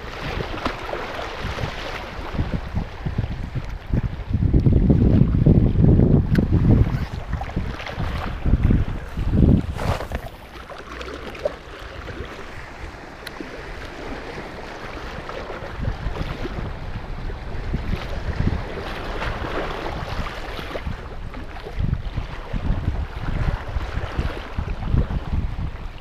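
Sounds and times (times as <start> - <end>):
sea water washing on rocks: 0.0 - 25.0
wind buffeting microphone: 0.0 - 26.0.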